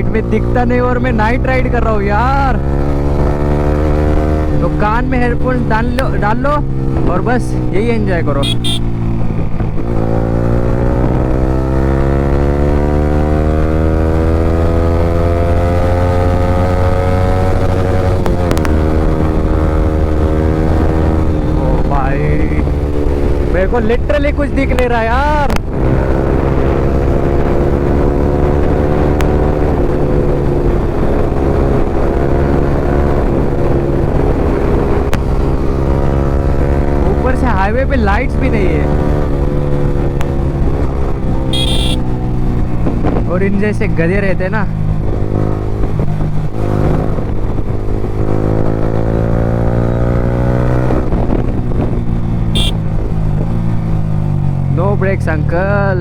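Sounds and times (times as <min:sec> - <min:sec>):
motorcycle engine cruising: 0:00.0 - 0:56.0
wind rumble on microphone: 0:08.9 - 0:44.0, 0:44.7 - 0:54.8.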